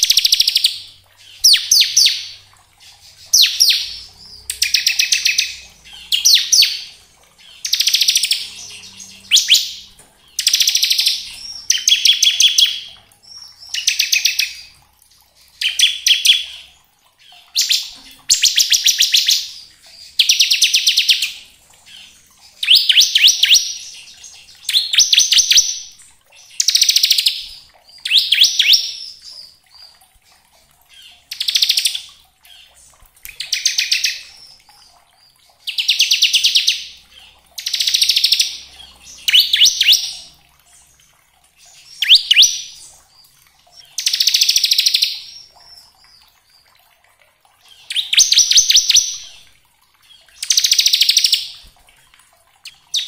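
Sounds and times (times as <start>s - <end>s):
bird singing buzzy trills: 0.0s - 30.0s, 33.4s - 46.2s.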